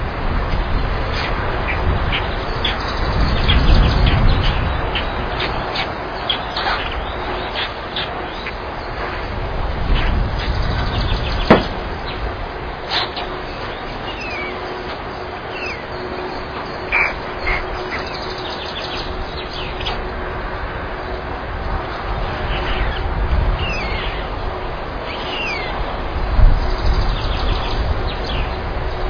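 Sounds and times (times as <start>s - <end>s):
faint hum: 0.0s - 29.0s
small birds chirping: 0.6s - 9.3s, 9.9s - 12.3s, 12.9s - 20.1s, 22.4s - 29.0s.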